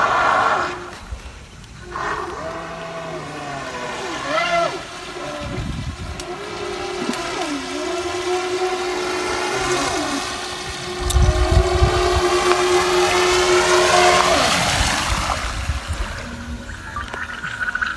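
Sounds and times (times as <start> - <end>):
toy boat motor whining: 0.0 - 17.2.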